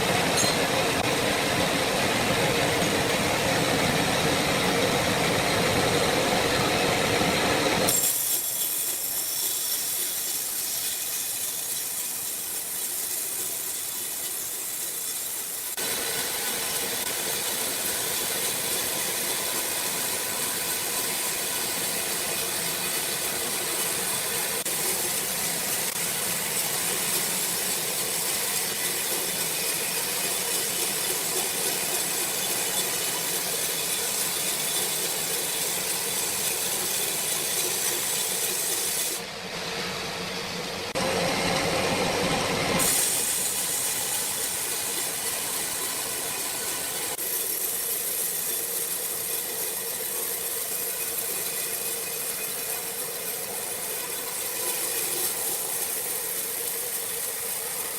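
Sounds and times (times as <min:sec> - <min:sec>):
sawmill machinery hissing: 0:00.0 - 0:57.9.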